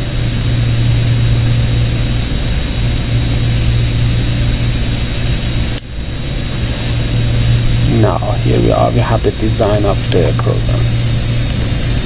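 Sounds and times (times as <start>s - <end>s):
machine hum and hiss: 0.0s - 12.0s
thin high whine: 0.0s - 12.0s.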